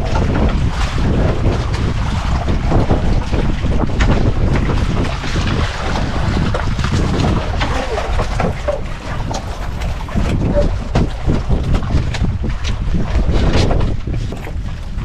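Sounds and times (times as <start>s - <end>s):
water splashing against boat: 0.0s - 15.0s
wind buffeting microphone: 0.0s - 15.0s.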